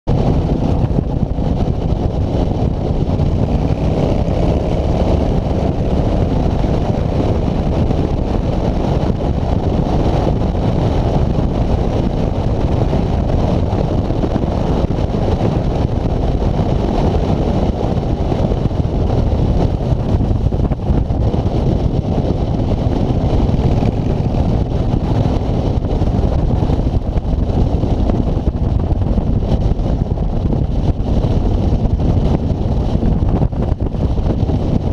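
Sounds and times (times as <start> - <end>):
wind rush on microphone: 0.0 - 34.9.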